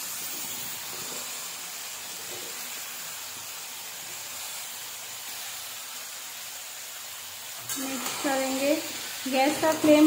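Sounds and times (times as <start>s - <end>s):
potatoes and onions sizzling in oil: 0.0s - 10.0s.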